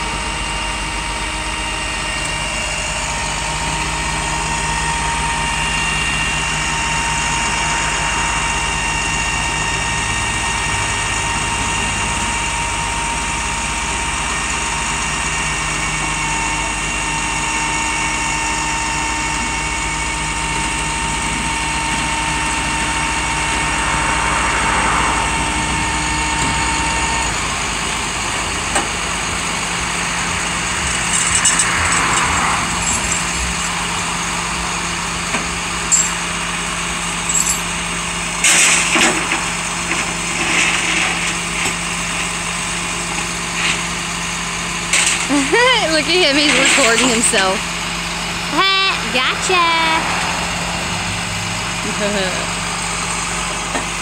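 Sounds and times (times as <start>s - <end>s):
truck engine running: 0.0s - 54.0s
winch whine: 0.0s - 54.0s.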